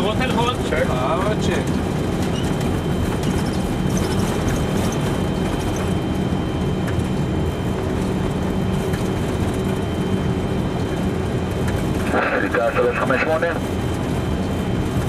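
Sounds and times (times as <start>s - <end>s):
jet engines rumbling on takeoff: 0.0s - 15.0s.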